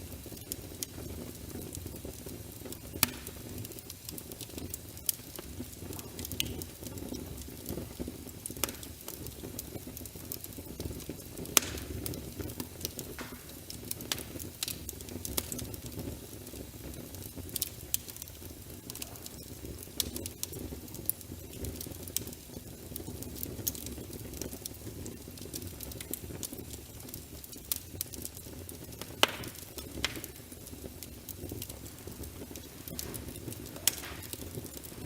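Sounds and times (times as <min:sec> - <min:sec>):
sharp pops of fire: 0:00.0 - 0:35.0
wood fire crackling: 0:00.0 - 0:35.0.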